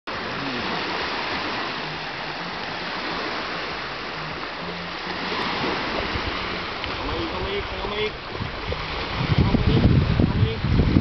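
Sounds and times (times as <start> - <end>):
sea surf rushing: 0.1 - 11.0.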